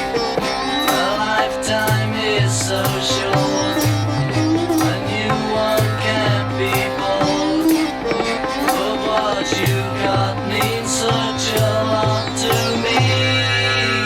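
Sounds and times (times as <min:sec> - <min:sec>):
sitar: 0:00.0 - 0:14.0
steady drone: 0:00.0 - 0:14.0
tabla rhythm: 0:00.0 - 0:14.0.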